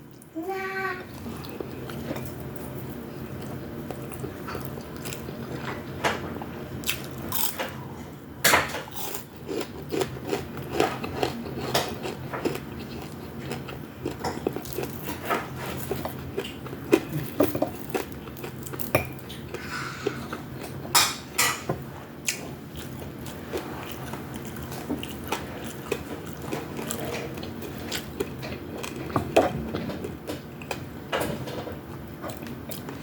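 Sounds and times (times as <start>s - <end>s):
person chewing food: 1.1s - 8.0s, 8.9s - 21.0s, 22.2s - 31.0s, 31.9s - 33.0s.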